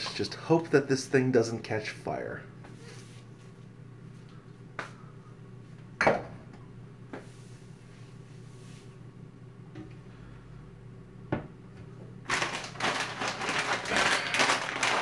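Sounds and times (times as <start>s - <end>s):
air fryer fan humming: 0.0s - 15.0s.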